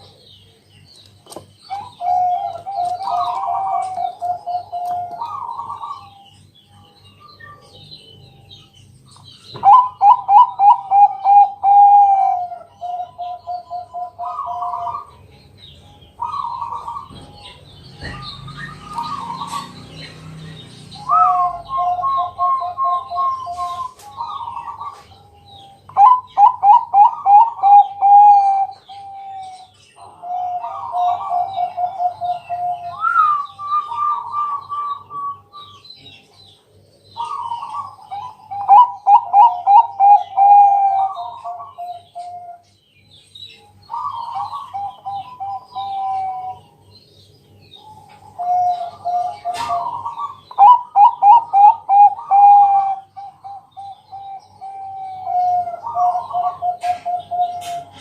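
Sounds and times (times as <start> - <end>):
doves cooing: 1.3 - 8.3, 9.5 - 15.3, 16.1 - 36.2, 37.1 - 42.6, 43.6 - 46.9, 47.7 - 58.0.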